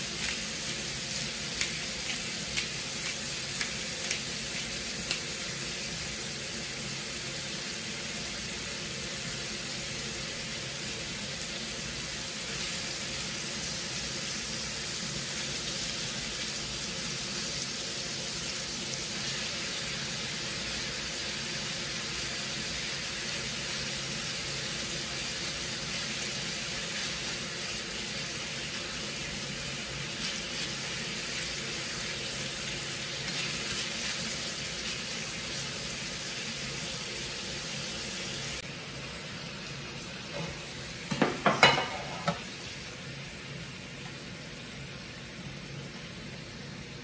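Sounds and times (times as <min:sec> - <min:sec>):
food sizzling in a pan: 0:00.0 - 0:47.0.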